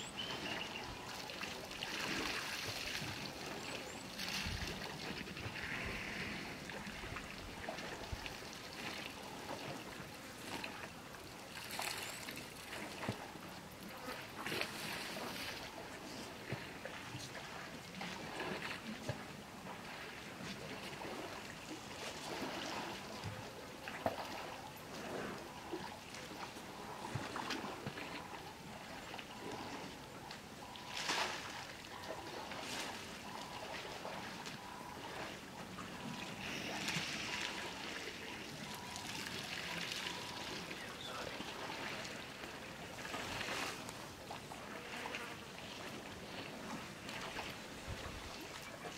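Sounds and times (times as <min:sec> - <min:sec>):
water splashing and trickling: 0:00.0 - 0:48.9.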